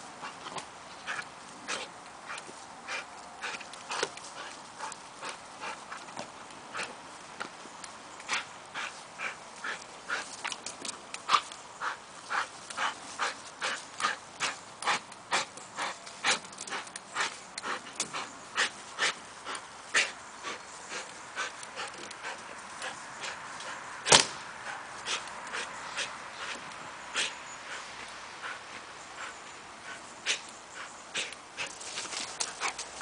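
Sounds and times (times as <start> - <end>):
dog panting: 0.1 - 7.1, 8.2 - 24.0, 24.6 - 33.0.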